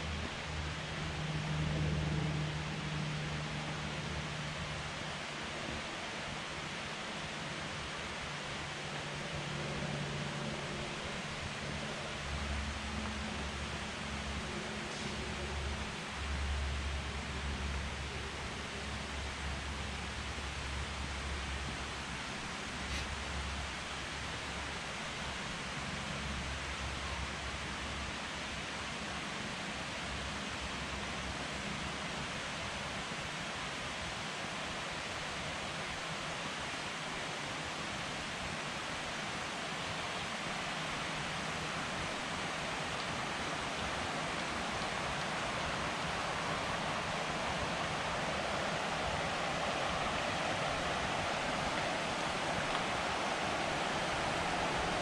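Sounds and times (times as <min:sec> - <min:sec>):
creek water rushing: 0:00.0 - 0:55.0.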